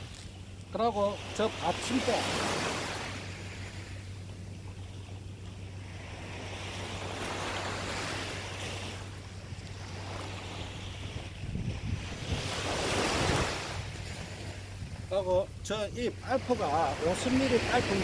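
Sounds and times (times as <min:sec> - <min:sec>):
low steady rumble: 0:00.0 - 0:18.0
small waves breaking on beach: 0:00.0 - 0:18.0.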